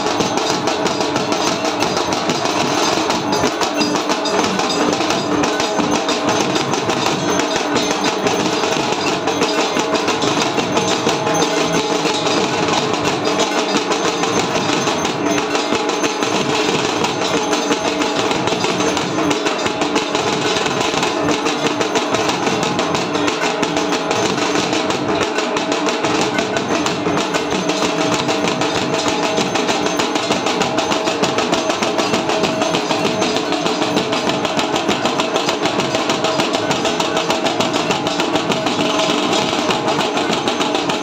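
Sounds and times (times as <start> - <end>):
rapid percussion: 0.0 - 41.0
ringing metallic tones: 0.0 - 41.0.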